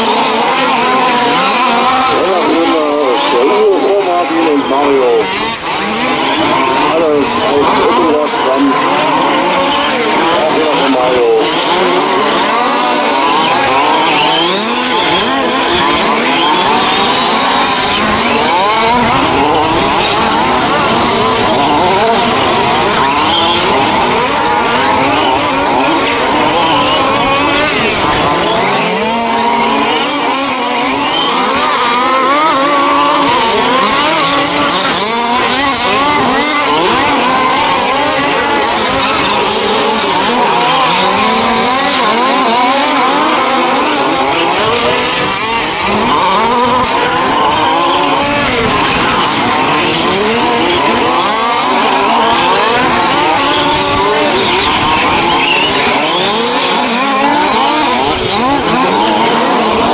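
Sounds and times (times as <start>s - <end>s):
model truck engines revving: 0.0s - 59.9s.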